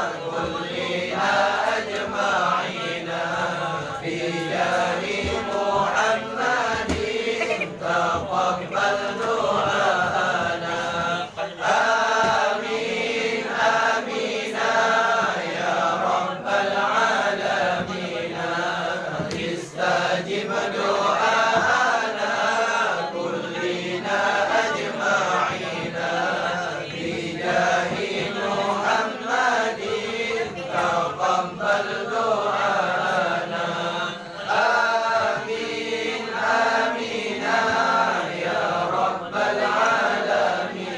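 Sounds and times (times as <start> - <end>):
men chanting together: 0.0 - 40.9.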